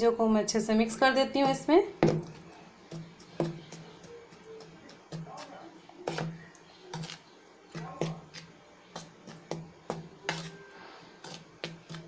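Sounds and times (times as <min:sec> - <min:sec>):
spoon scraping plastic bowl: 0:01.4 - 0:12.0.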